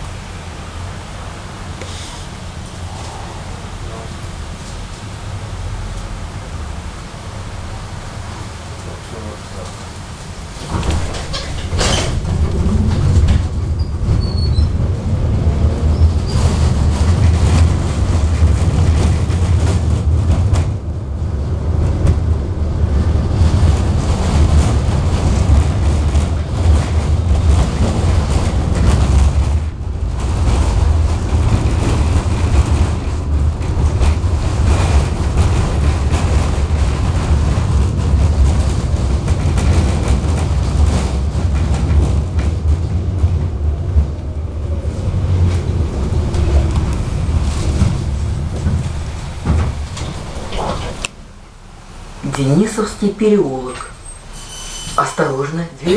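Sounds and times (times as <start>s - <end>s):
tram wheels rumbling on rails: 0.0s - 55.9s.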